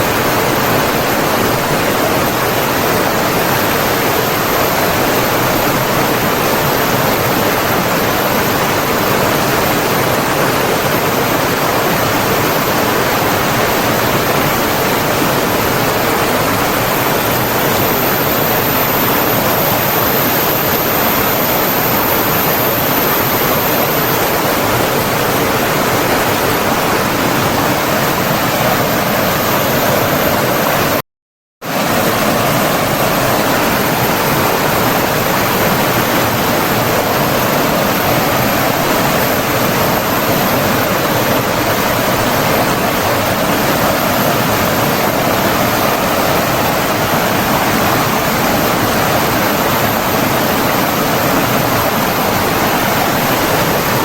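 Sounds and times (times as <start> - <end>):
flowing water rushing: 0.0 - 31.0, 31.7 - 54.0.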